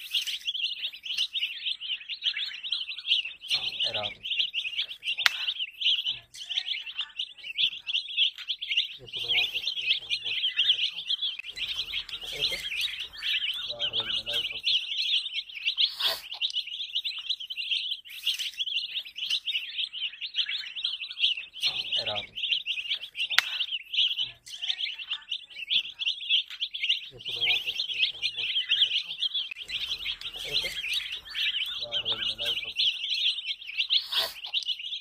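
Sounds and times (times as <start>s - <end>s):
baby chicks peeping: 0.0s - 35.0s
low murmuring sounds: 1.8s - 17.4s, 20.0s - 34.8s.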